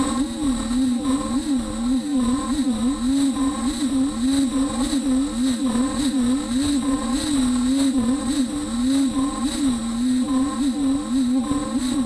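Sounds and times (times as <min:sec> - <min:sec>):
router machine whine wavering: 0:00.0 - 0:12.0
steady high-pitched whine: 0:00.0 - 0:12.0.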